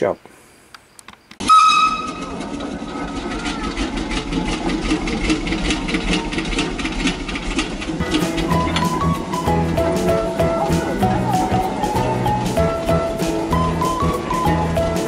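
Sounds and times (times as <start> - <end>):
engine chugging: 1.4 - 15.0.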